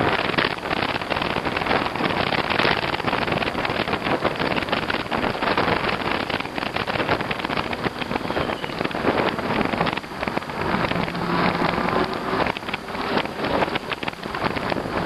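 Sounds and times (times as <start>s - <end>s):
bicycle tyres rolling through snow: 0.0s - 15.0s
wind buffeting microphone: 0.0s - 15.0s.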